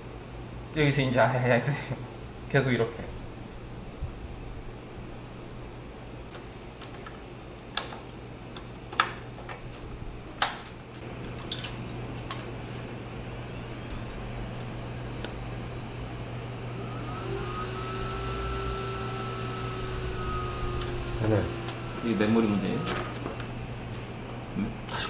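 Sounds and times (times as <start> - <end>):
computer fans running: 0.0 - 25.0.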